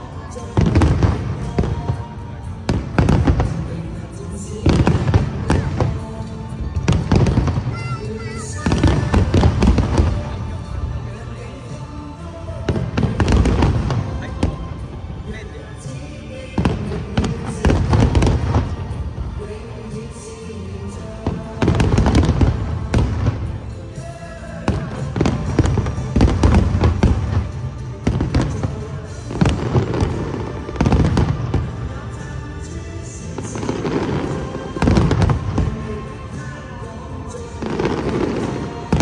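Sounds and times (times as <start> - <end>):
fireworks bangs and crackles: 0.0 - 11.8, 12.5 - 39.0
music: 0.0 - 39.0.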